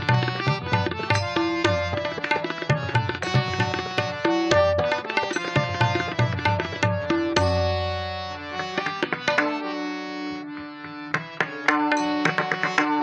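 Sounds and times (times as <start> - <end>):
harmonium melody: 0.0 - 13.0.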